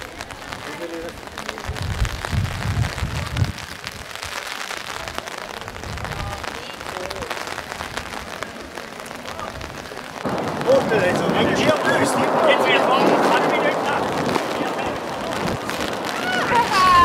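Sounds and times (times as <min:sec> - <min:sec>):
rain on cobbled street: 0:00.0 - 0:17.0.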